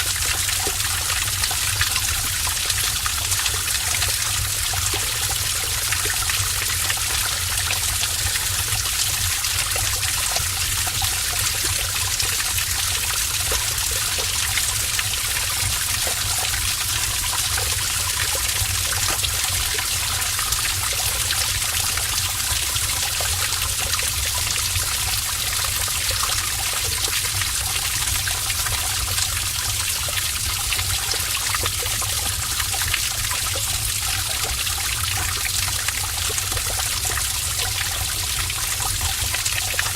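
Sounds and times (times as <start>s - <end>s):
water pouring in a cave: 0.0s - 39.9s.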